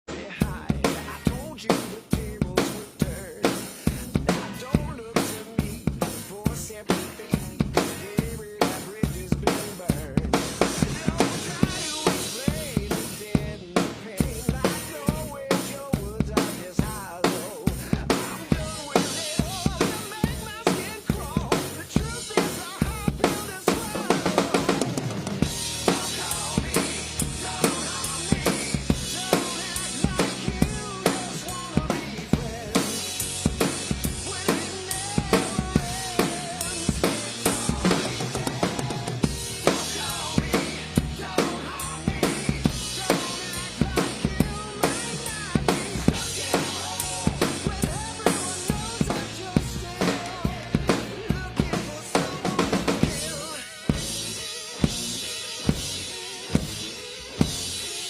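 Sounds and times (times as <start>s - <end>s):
drum kit rock groove: 0.1s - 58.0s
recorded song with singing: 0.1s - 58.0s.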